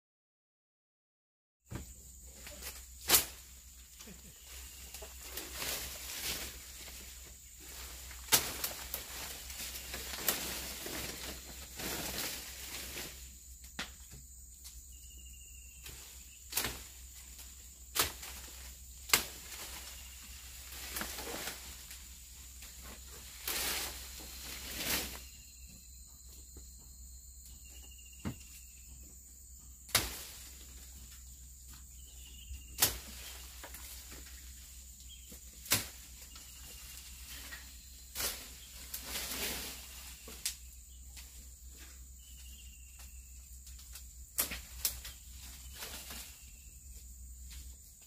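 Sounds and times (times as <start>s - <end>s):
insects buzzing: 1.7s - 48.0s.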